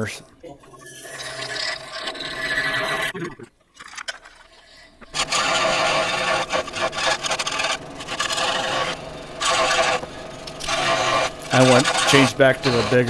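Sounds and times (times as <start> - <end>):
scroll saw cutting wood: 0.7 - 3.2, 3.8 - 13.0.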